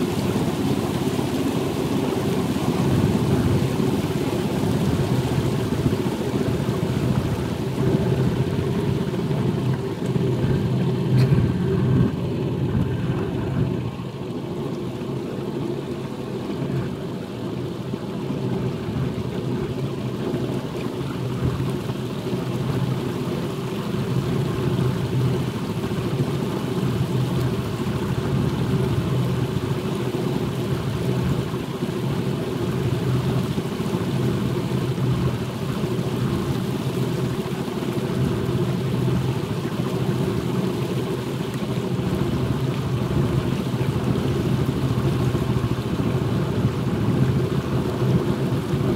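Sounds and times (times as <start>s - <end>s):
small boat engine running: 0.0s - 48.9s.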